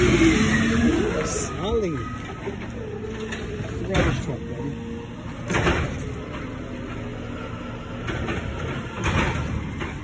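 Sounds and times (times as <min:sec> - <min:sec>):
garbage truck engine rumble: 0:00.0 - 0:10.0.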